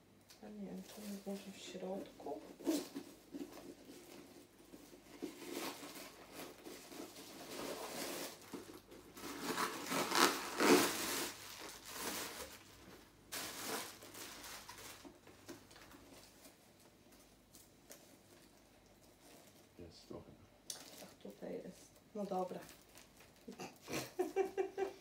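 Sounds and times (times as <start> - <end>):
plastic wrapping crinkling: 0.7 - 19.8, 20.7 - 21.3, 22.2 - 23.8.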